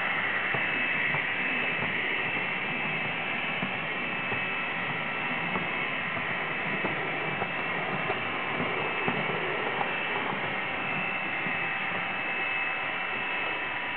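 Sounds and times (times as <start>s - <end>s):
model train whirring: 0.0s - 13.9s
wheels clicking on rails: 0.0s - 13.9s.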